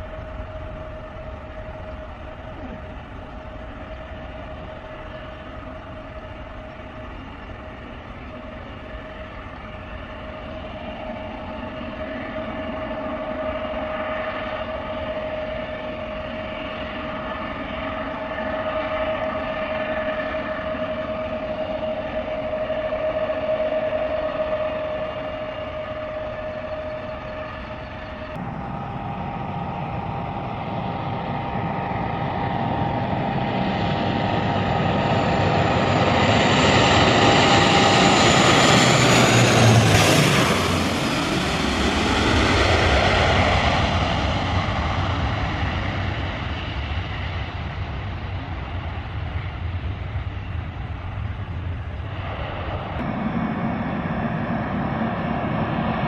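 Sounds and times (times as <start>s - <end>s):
jet airliner taking off: 0.0s - 56.0s
turboprop plane drone: 0.0s - 56.0s.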